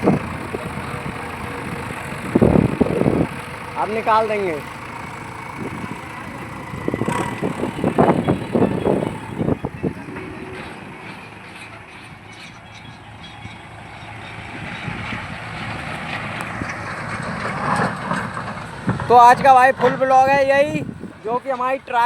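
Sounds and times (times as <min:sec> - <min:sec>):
diesel engines under load: 0:00.0 - 0:22.0.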